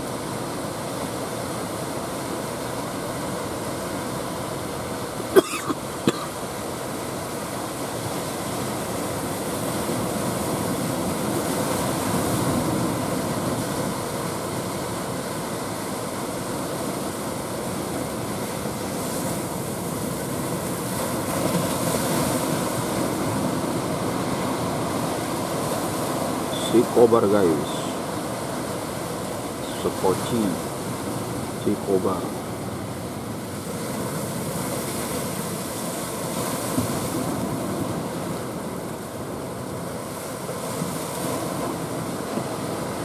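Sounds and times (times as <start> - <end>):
rough sea surf: 0.0 - 43.0
wind: 0.0 - 43.0.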